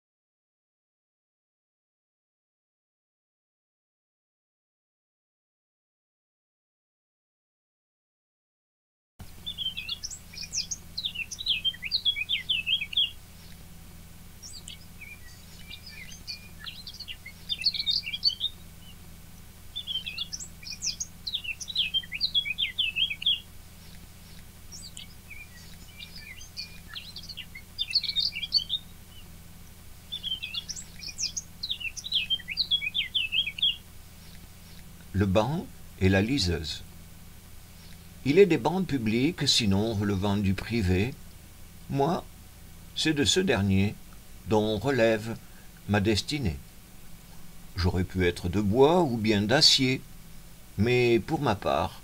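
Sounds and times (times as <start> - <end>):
songbird warbling: 9.2 - 52.0.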